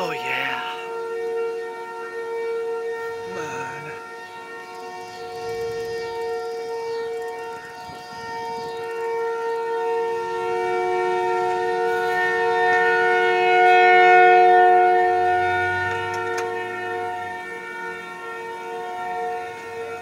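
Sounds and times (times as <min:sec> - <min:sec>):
tornado warning siren wailing: 0:00.0 - 0:20.0.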